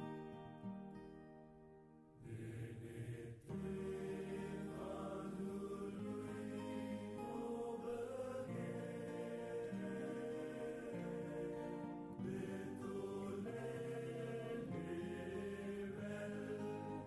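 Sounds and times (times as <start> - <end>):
slow chanted singing: 2.2 - 17.0.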